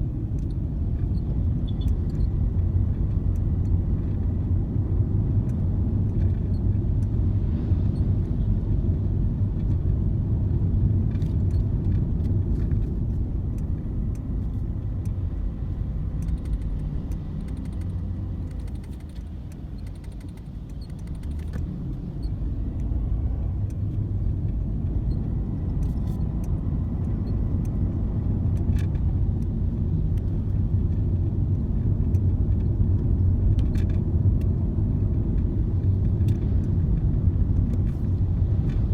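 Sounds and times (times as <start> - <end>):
low rumble of moving car: 0.0 - 38.9.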